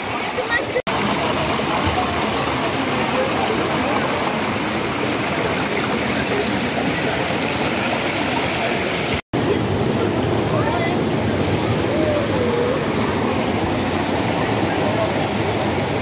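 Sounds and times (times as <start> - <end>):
stream splashing over stones: 0.0 - 16.0.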